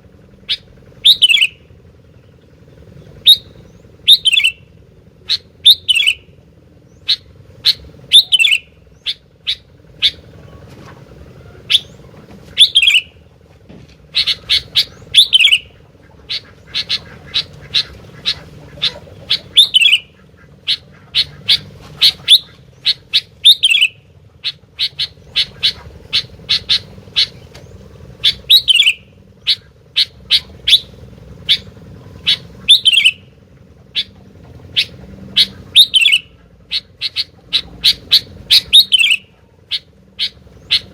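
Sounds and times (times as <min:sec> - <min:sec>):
faint steady hum: 0:00.0 - 0:40.9
bird singing chipping notes: 0:00.5 - 0:10.6, 0:11.6 - 0:13.2, 0:14.1 - 0:40.9.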